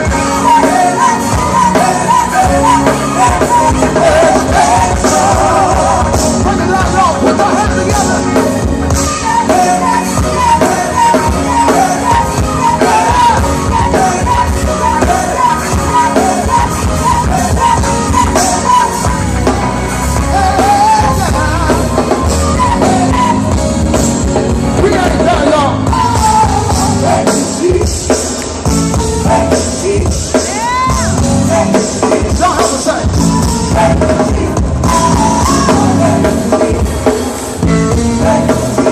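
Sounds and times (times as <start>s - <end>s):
choir singing with band: 0.0s - 38.9s.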